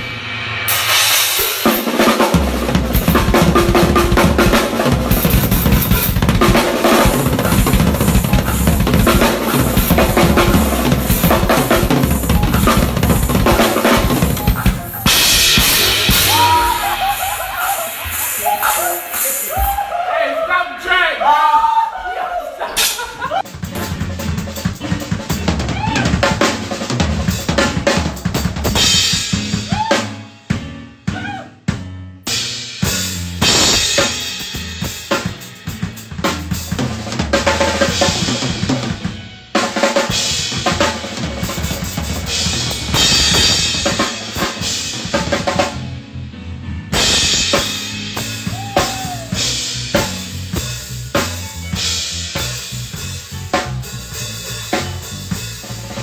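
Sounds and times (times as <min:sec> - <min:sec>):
drum kit playing fast: 0:00.0 - 0:20.1, 0:22.8 - 0:46.2, 0:46.8 - 0:56.0.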